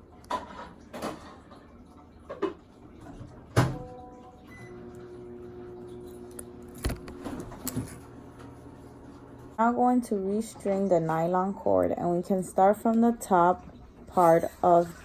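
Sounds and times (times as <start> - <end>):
faint multi-tone hum: 0.0 - 15.0.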